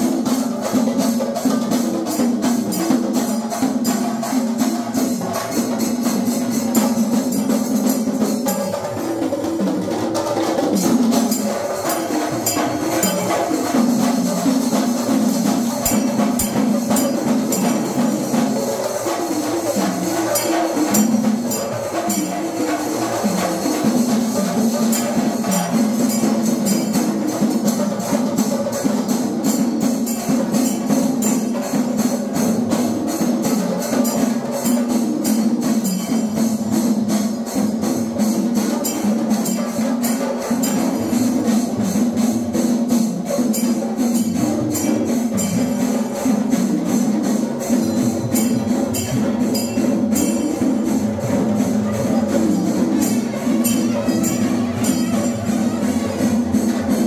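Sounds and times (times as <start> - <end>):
percussion-led music: 0.0 - 57.0.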